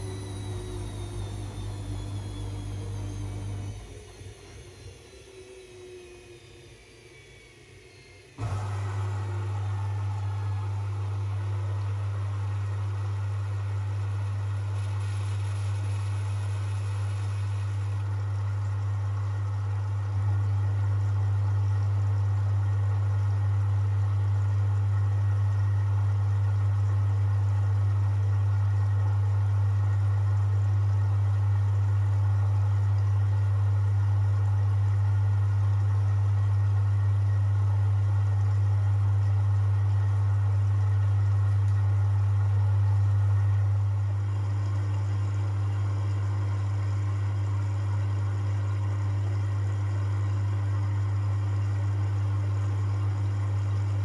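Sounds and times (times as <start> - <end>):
washing machine drain pump humming: 0.0 - 54.0.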